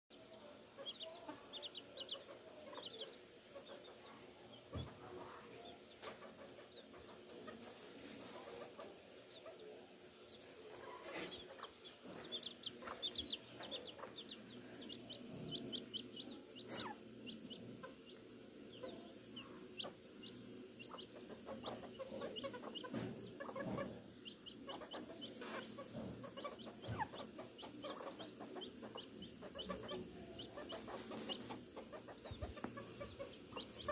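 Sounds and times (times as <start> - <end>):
chickens clucking softly: 0.1 - 33.9.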